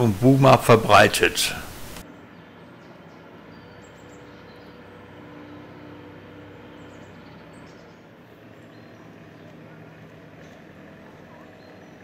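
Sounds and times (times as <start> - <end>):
low even hum: 0.0 - 12.0.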